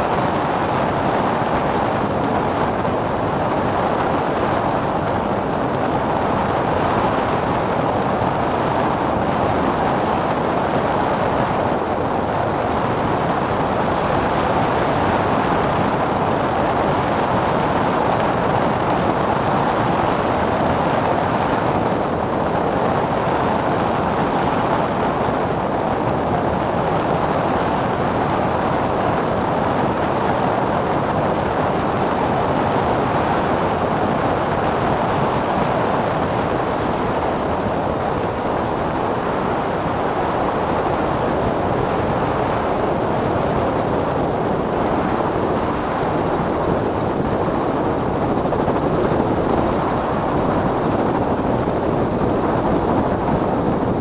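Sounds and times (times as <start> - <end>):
light aircraft in-flight noise: 0.0 - 54.0.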